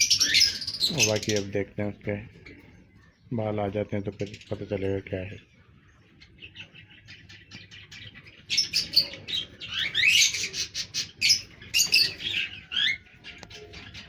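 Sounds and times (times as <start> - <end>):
birds chirping harshly: 0.0 - 14.0.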